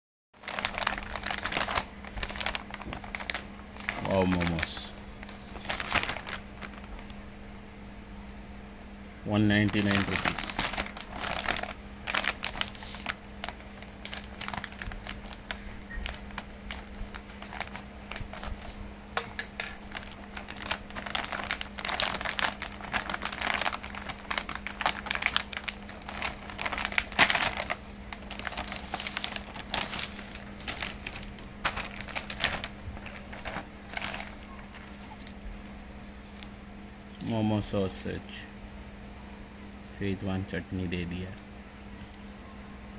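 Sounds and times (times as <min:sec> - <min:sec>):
plastic packet crinkling: 0:00.4 - 0:07.2, 0:09.5 - 0:37.4
faint steady hum: 0:00.4 - 0:42.9.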